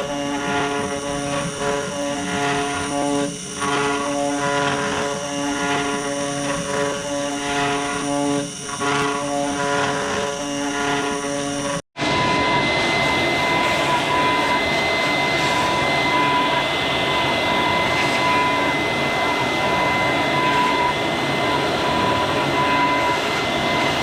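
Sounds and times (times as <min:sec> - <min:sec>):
cutter carving wood: 0:00.0 - 0:24.0
router spindle motor whining: 0:00.0 - 0:24.0.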